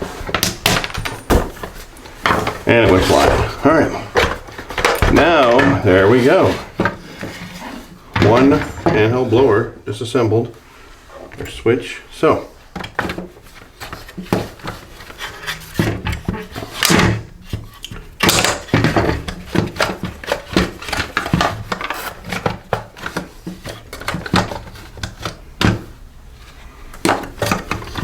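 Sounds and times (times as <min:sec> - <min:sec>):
plastic parts clattering on workbench: 0:00.0 - 0:09.4, 0:12.7 - 0:25.9, 0:27.0 - 0:28.0.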